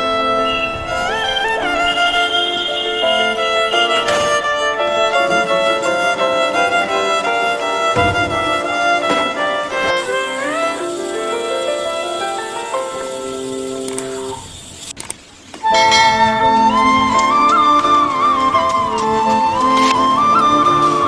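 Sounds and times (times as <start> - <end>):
violin melody: 0.0 - 14.4, 15.5 - 21.0.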